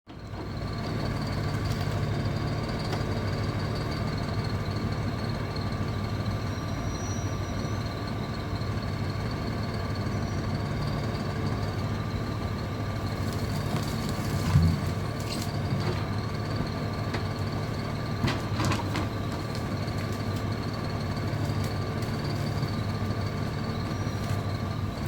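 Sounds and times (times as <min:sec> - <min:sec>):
hydraulic crane engine drone: 0:00.2 - 0:25.0.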